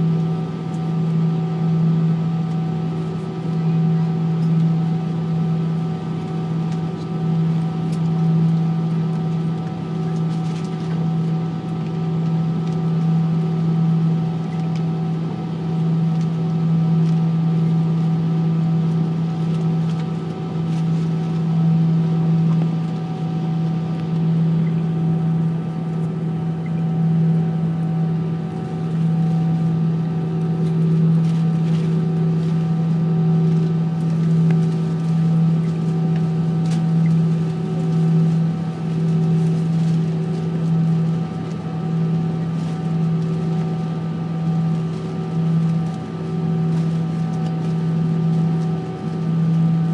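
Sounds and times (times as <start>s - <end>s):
jet engines idling drone: 0.0s - 49.9s.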